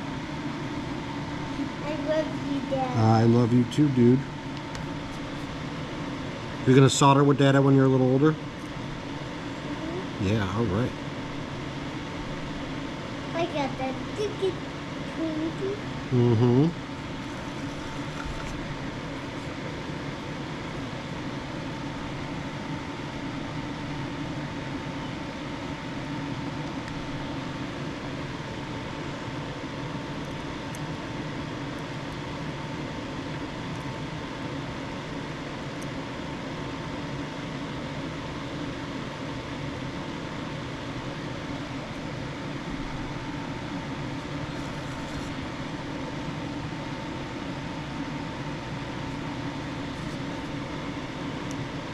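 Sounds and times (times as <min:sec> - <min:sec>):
machine hum: 0:00.0 - 0:51.9.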